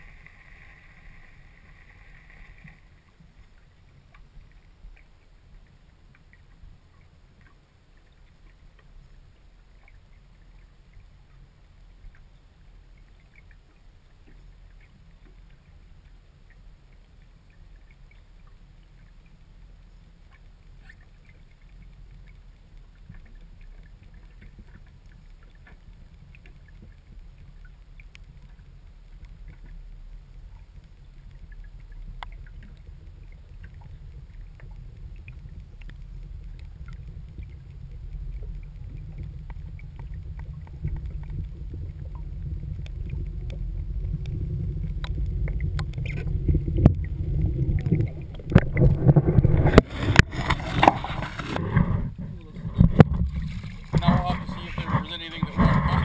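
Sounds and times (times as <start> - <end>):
faint clicks: 0.0 - 56.0
low rumble of moving water: 0.0 - 56.0.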